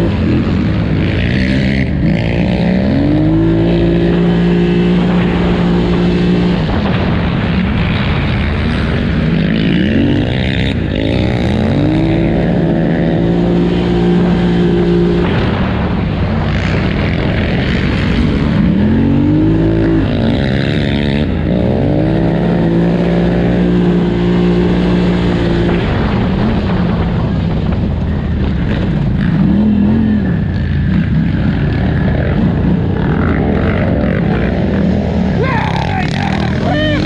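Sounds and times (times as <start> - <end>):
atv engine revving: 0.0 - 37.0
rough-ground noise: 0.0 - 37.0.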